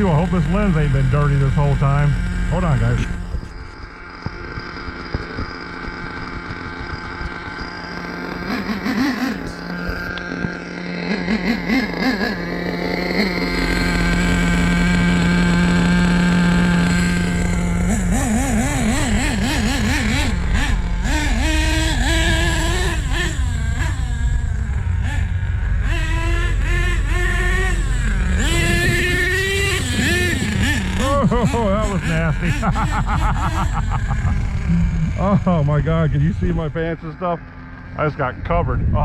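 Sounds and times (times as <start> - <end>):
rc truck engine revving: 0.0 - 39.0.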